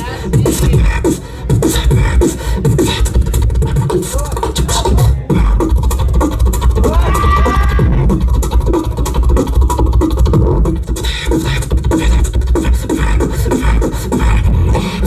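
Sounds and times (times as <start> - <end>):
beatboxing through speakers: 0.0 - 15.0
heavy bass: 0.0 - 15.0.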